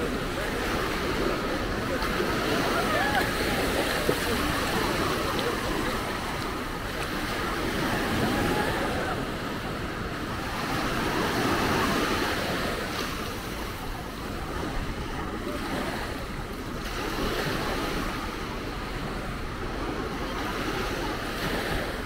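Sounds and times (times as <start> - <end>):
sea waves breaking on beach: 0.0 - 22.0.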